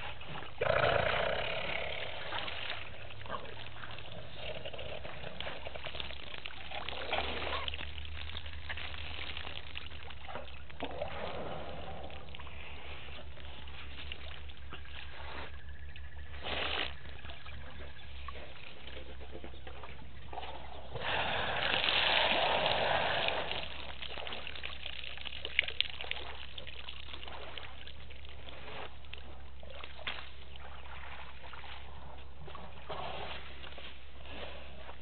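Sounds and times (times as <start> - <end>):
elephants splashing water: 0.0 - 35.0.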